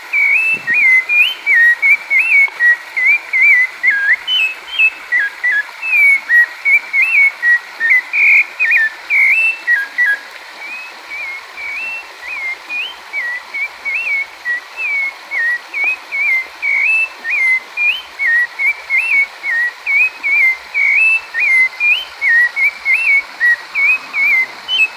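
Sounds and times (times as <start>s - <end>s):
flowing water: 0.0s - 24.9s
thrush singing whistled notes: 0.0s - 24.9s.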